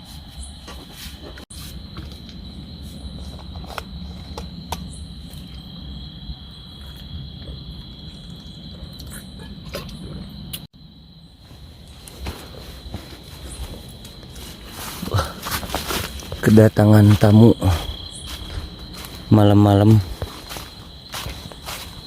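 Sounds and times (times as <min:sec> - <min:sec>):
night insects chirring: 0:00.0 - 0:22.0.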